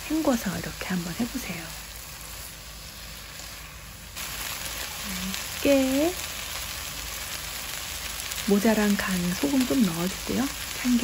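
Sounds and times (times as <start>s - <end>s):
potatoes sizzling in pan: 0.0s - 11.0s.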